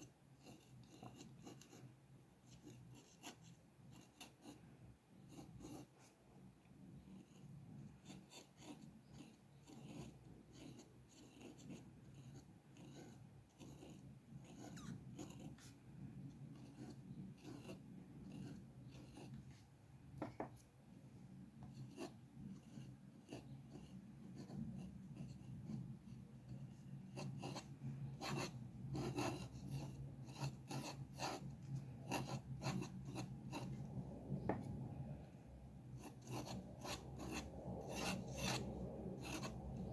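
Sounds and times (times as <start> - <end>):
pencil strokes scratching on paper: 0.0 - 20.7, 21.3 - 39.9
faint low hum: 0.0 - 39.9.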